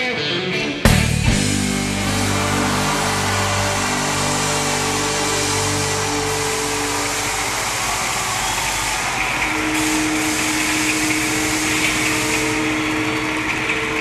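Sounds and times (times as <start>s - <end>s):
loud rushing noise: 0.9s - 14.0s.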